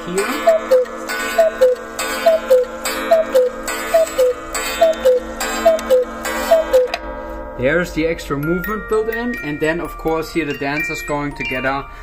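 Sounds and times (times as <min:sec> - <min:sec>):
cuckoo clock calling: 0:00.0 - 0:07.2, 0:08.3 - 0:11.9
clock mechanism clacking: 0:00.0 - 0:11.8.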